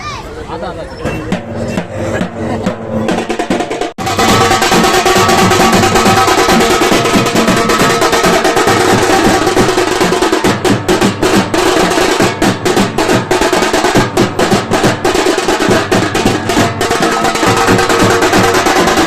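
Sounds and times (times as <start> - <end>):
fast dense drumming: 1.3 - 19.0.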